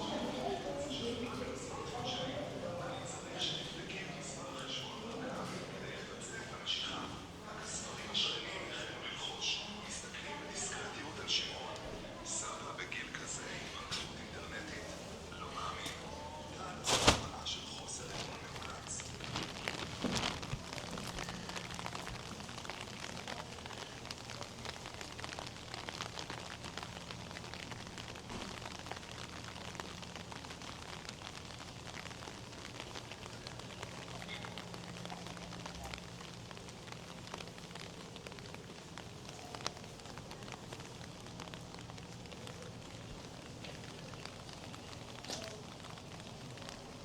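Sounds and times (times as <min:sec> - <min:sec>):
rain patter: 0:00.0 - 0:47.0.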